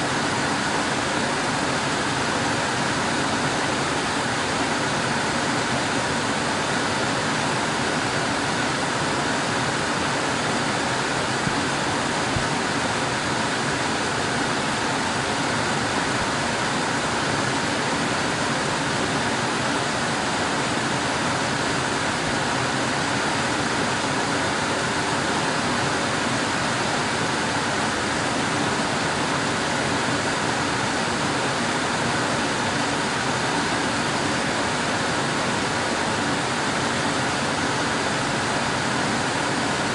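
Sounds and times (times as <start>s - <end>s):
air conditioner blowing: 0.0s - 39.9s.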